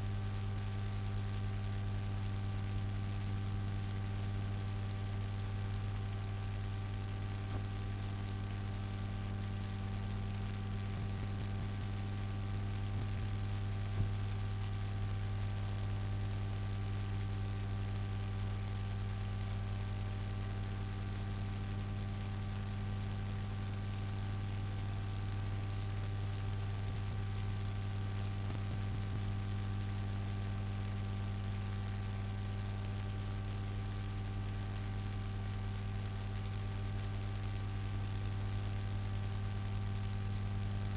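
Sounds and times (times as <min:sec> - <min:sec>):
electrical mains hum: 0:00.0 - 0:40.9
constant hiss: 0:00.6 - 0:40.9.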